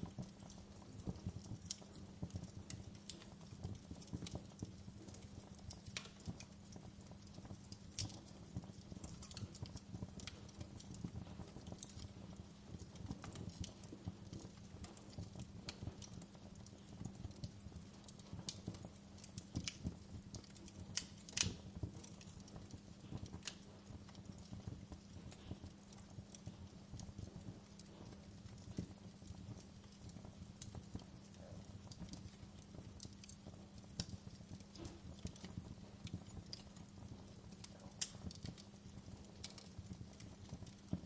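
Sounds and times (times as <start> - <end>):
fire crackling: 0.0 - 41.0
sharp pops of fire: 0.0 - 41.0.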